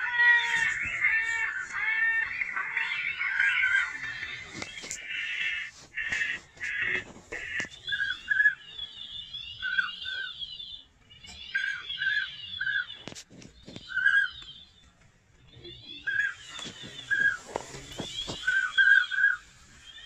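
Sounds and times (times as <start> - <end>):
birds whistling: 0.0 - 20.0
high twittering chatter: 0.0 - 20.0.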